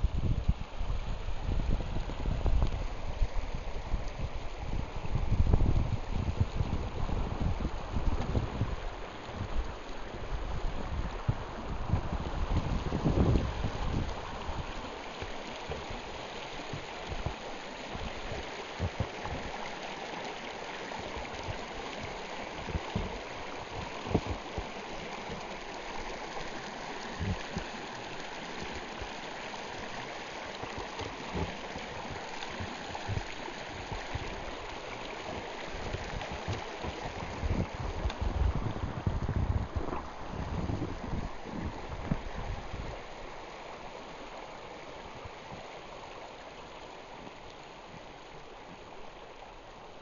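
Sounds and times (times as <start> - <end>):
stream water running: 0.0 - 50.0.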